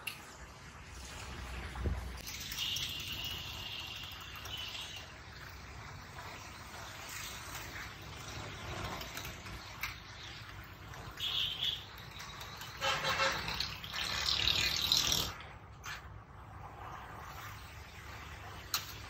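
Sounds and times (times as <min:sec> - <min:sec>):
roadside traffic: 0:00.0 - 0:19.0.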